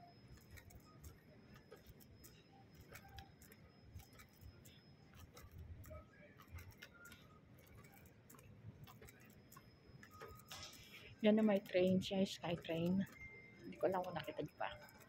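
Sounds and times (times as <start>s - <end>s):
light clicks and ticks: 0.0s - 15.0s.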